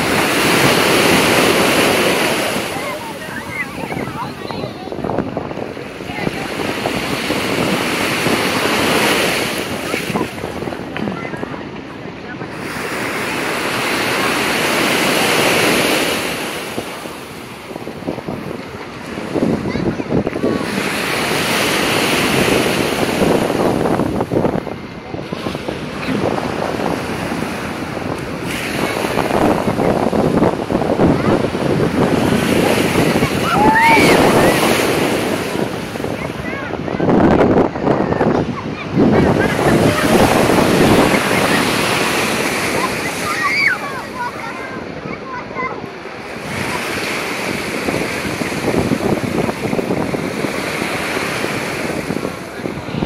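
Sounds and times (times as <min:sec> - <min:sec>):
small waves lapping and splashing: 0:00.0 - 0:53.0
wind buffeting microphone: 0:00.0 - 0:53.0.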